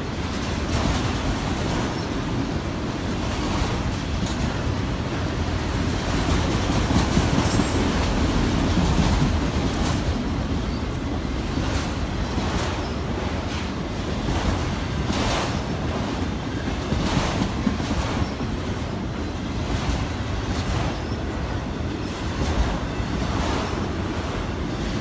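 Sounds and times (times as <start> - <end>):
steel wheels rumbling on rails: 0.0 - 25.0.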